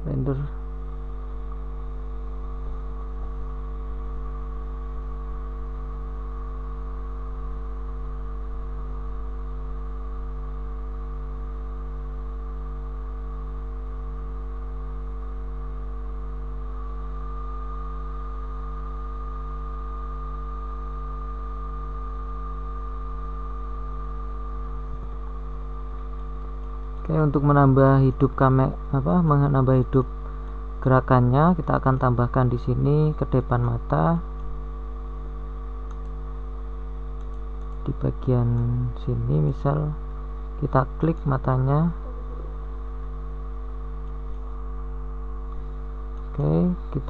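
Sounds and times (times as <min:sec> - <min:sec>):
electrical mains hum: 0:00.0 - 0:47.0
thin high whine: 0:00.0 - 0:47.0.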